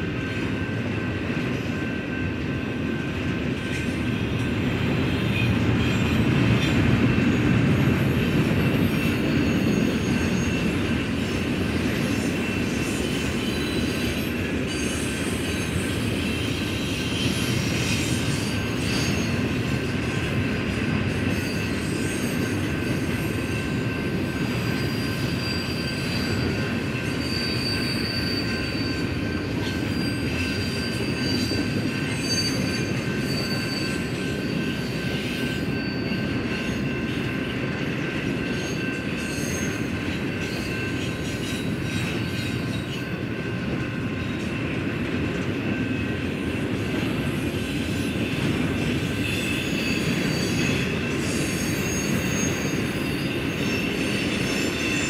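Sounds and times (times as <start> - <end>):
freight train wheels rumbling on track: 0.0 - 55.0.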